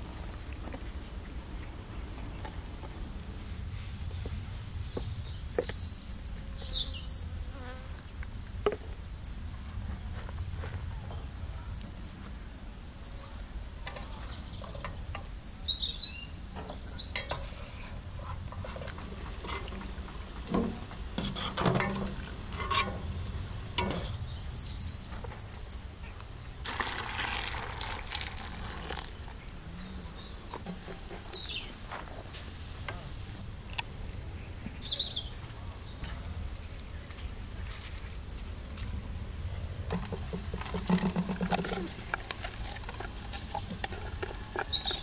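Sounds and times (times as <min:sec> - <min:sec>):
small birds chirping: 0:00.0 - 0:08.6, 0:09.2 - 0:32.1, 0:33.4 - 0:45.0.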